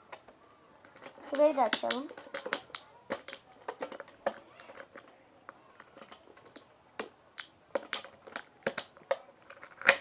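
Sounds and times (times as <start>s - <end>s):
clicks of plastic toy being handled: 0.1s - 10.0s.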